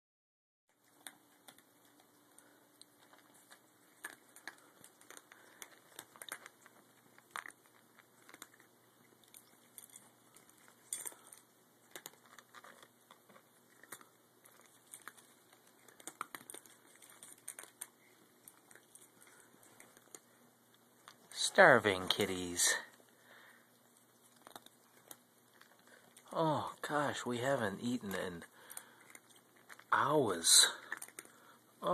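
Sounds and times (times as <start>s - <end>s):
cats chewing crunchily: 0.7s - 31.9s.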